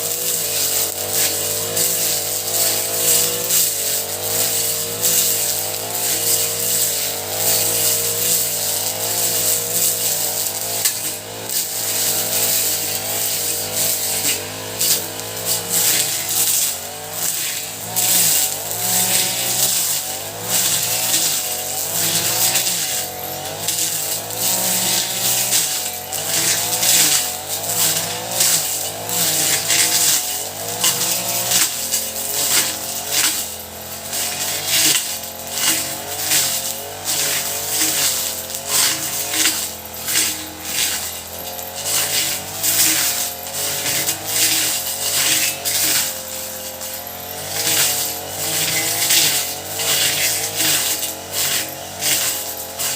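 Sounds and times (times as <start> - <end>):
brush cutter engine running: 0.0 - 52.9.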